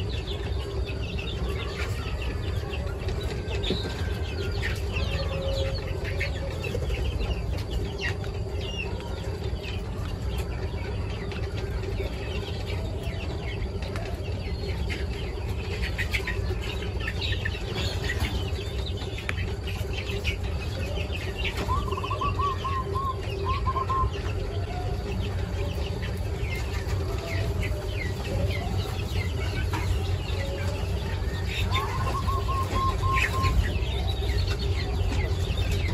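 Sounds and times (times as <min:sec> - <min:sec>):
young quails peeping: 0:00.0 - 0:35.9.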